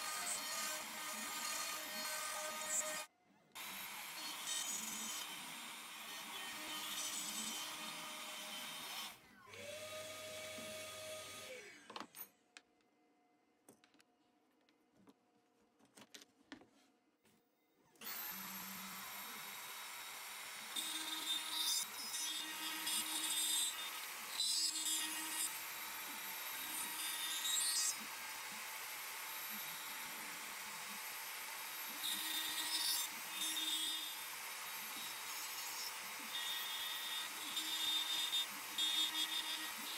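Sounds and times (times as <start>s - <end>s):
router spindle cutting wood: 0.0s - 11.9s, 18.0s - 39.9s.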